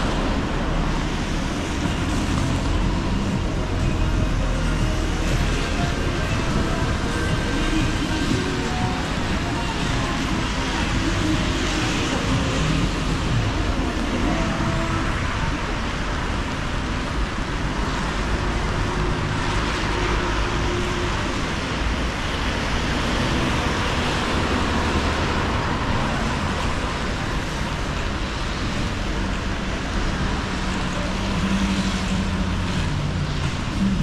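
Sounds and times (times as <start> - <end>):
tyres hissing on wet road: 0.0 - 34.0.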